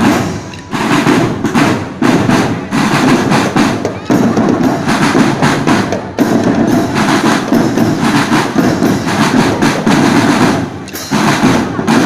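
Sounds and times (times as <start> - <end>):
marching drum band playing: 0.0 - 12.0.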